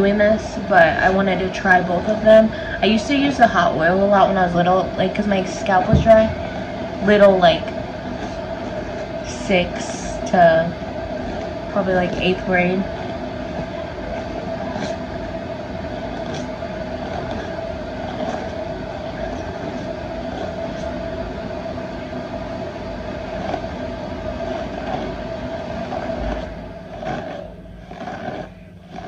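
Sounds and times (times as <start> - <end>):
constant hum: 0.0 - 29.0
mechanical whir: 0.0 - 29.0.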